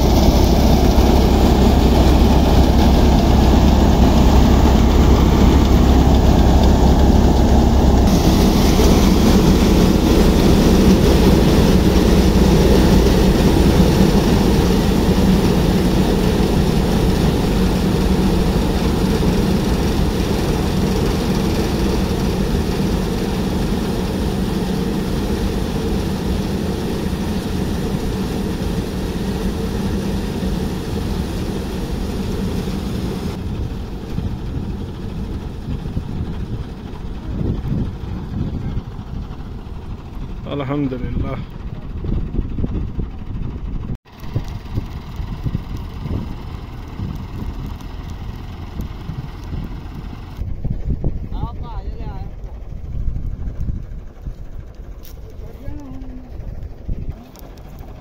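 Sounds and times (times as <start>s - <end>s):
diesel tractor engine drone: 0.0s - 58.0s
threshing machinery spinning: 0.0s - 58.0s.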